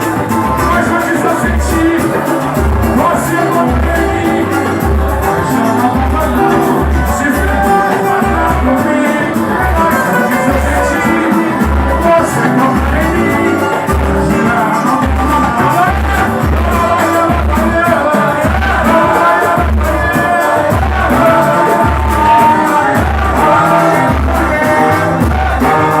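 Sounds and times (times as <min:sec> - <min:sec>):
deep drum beat: 0:00.0 - 0:26.0
person singing: 0:00.0 - 0:26.0
samba band playing: 0:00.0 - 0:26.0.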